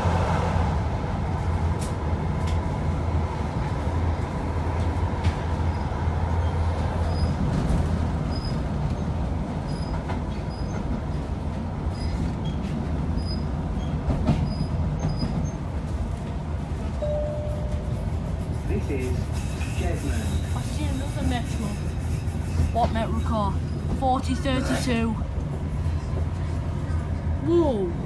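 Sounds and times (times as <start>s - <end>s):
train rumbling along track: 0.0s - 28.0s.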